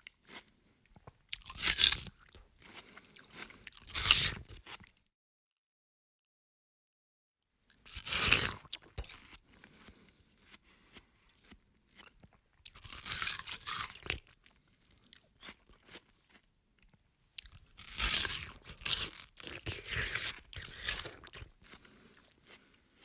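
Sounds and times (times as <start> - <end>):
person chewing watermelon: 0.0 - 5.0, 7.8 - 23.0.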